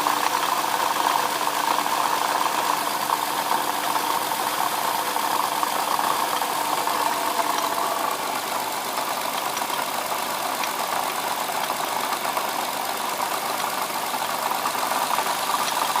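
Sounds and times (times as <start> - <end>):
car engine idling: 0.0 - 16.0
rattling and knocking from engine: 0.0 - 16.0.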